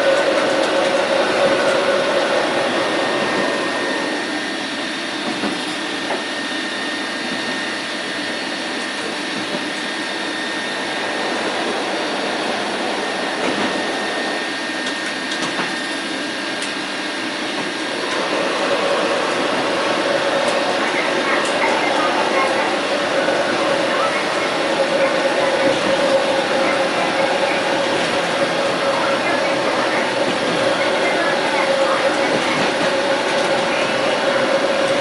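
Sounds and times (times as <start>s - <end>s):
train running: 0.0s - 35.0s.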